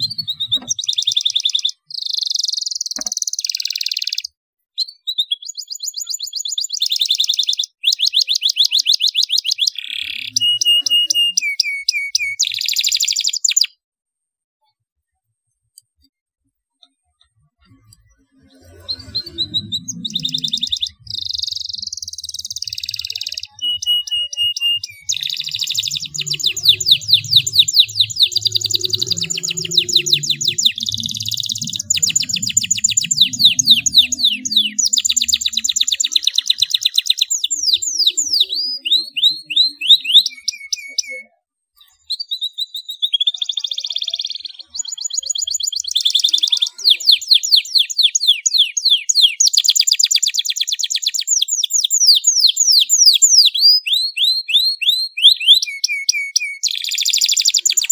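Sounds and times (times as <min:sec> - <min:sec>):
canary singing trills: 0:00.0 - 0:13.8, 0:17.6 - 0:57.9.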